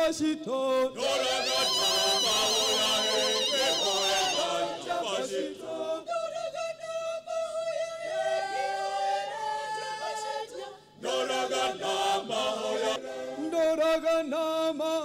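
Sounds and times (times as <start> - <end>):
mixed choir singing a cappella: 0.0 - 15.0.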